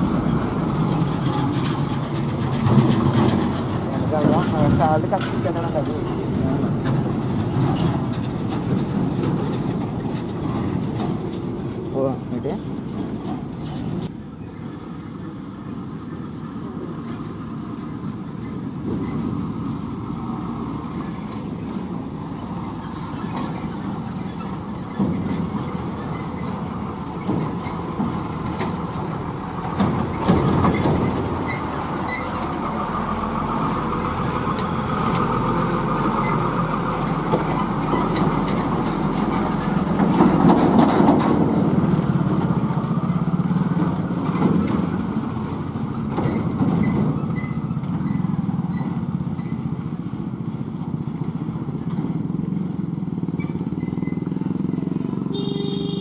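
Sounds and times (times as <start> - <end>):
truck diesel engine passing: 0.0 - 56.0
tyres on dirt: 0.0 - 56.0.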